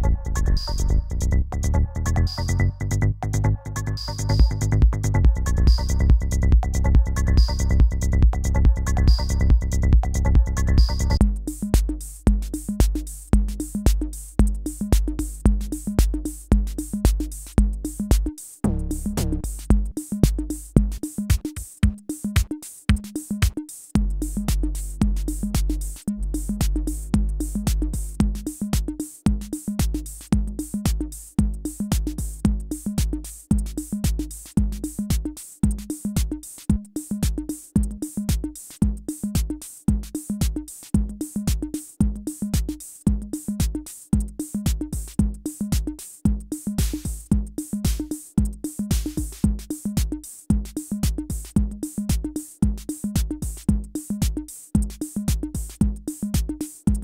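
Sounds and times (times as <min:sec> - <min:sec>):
hi-hat ticks: 0:00.0 - 0:57.0
drum machine kick: 0:02.2 - 0:57.0.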